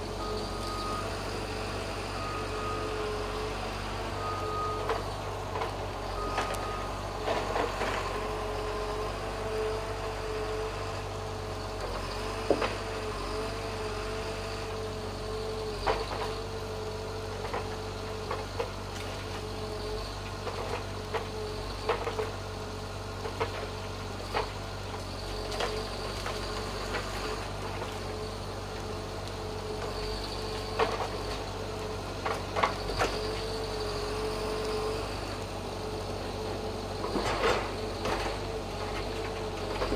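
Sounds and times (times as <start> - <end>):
crane hydraulic whine: 0.0 - 39.9
diesel engine running: 0.0 - 39.9.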